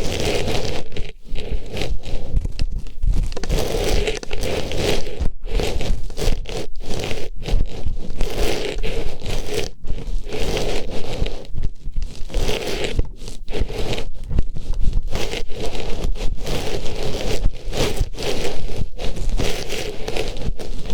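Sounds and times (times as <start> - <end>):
artificial flower rustling on microphone: 0.0 - 20.9.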